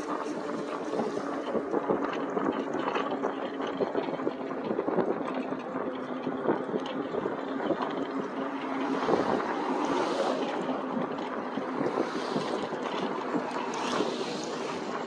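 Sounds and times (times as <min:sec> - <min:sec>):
bike tyre noise: 0:00.0 - 0:15.0
wind rushing over microphone: 0:00.0 - 0:15.0.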